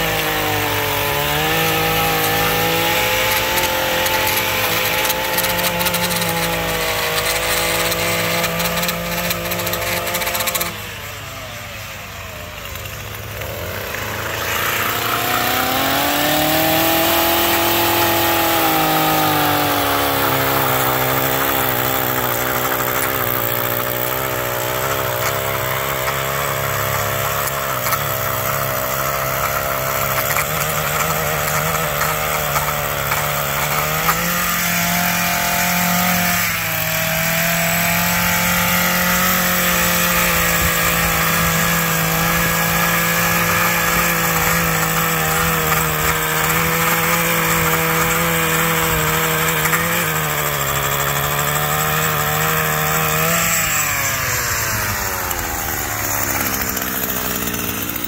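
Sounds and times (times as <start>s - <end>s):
blade cutting along concrete: 0.0s - 58.0s
two-stroke edger engine running: 0.0s - 58.0s.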